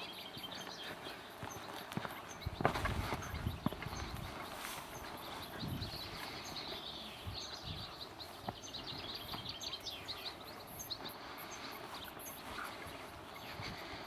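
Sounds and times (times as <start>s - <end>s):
footsteps on grass: 0.0s - 14.0s
small birds chirping: 0.0s - 14.0s.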